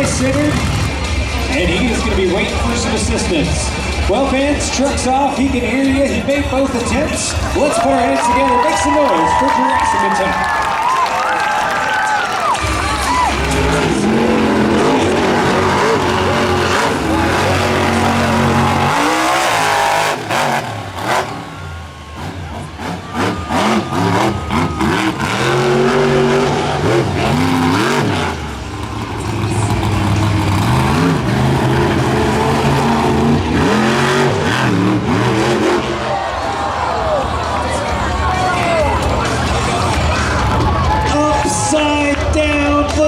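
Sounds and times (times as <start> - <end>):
truck engine revving hard: 0.0 - 43.0.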